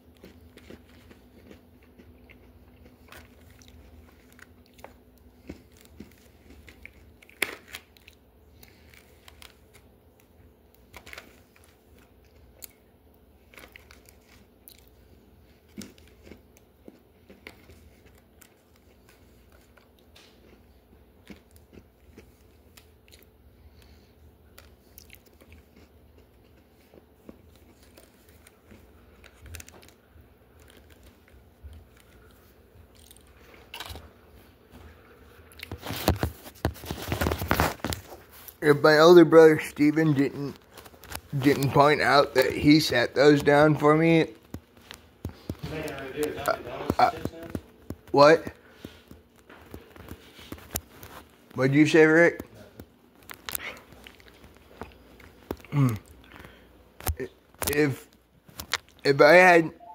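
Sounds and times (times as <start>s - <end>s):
person chewing crunchy cookies: 0.0s - 59.4s.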